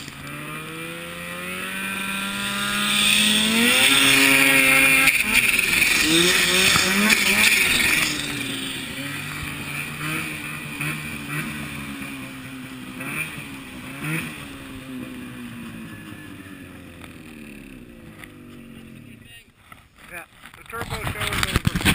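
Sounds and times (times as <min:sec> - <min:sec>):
snowmobile engine revving: 0:00.0 - 0:19.4.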